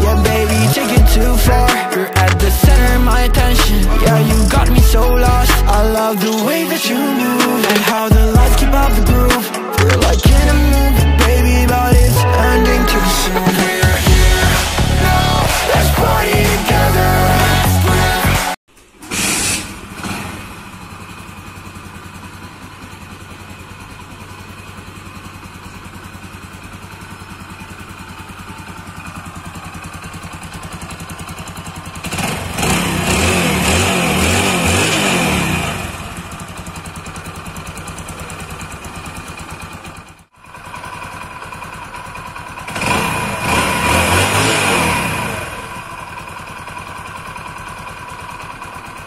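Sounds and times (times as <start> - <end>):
motorcycle engine idling and revving: 0.0 - 49.0.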